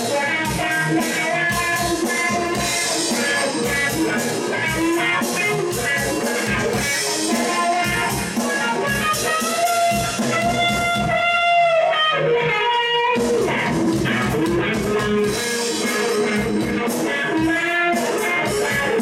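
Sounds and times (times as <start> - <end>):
drum beat: 0.0 - 11.6, 13.0 - 19.0
electric guitar lead: 0.0 - 19.0.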